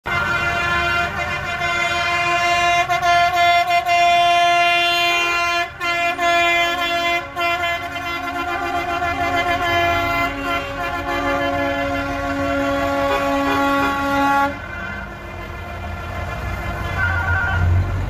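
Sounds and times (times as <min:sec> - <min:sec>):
truck horns blasting: 0:00.0 - 0:18.0.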